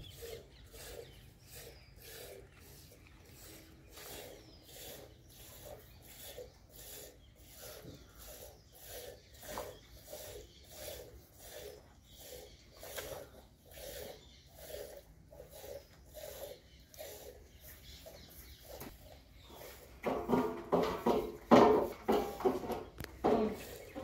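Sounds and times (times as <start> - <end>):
calf sucking: 0.0 - 24.0.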